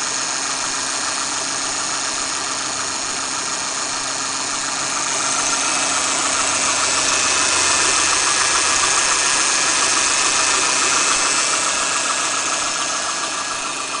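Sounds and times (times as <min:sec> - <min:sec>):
car engine idling: 0:00.0 - 0:14.0
power steering humming: 0:00.1 - 0:14.0.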